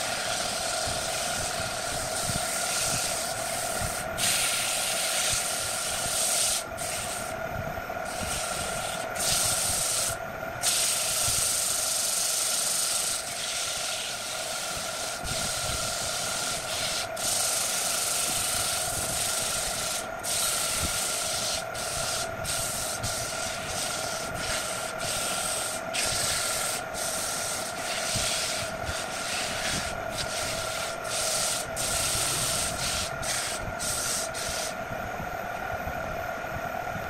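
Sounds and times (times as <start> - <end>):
sandpaper hissing on spinning wood: 0.0 - 7.4, 8.0 - 34.8
lathe motor whine: 0.0 - 37.0.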